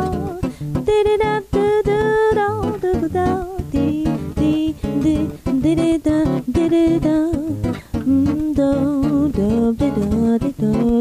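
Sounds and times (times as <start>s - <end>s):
plucked acoustic guitar: 0.0s - 11.0s
woman singing: 0.0s - 11.0s.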